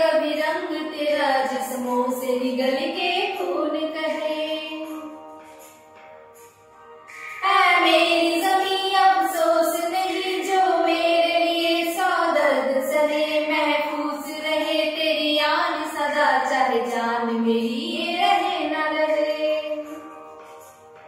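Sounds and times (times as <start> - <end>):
two women singing: 0.0 - 5.4, 7.1 - 20.3.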